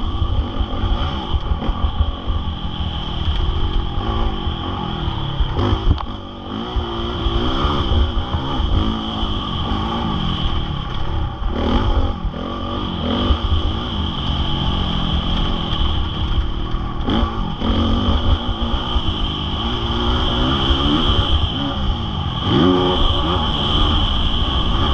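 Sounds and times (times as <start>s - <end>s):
motocross bike engine revving: 0.0s - 24.9s.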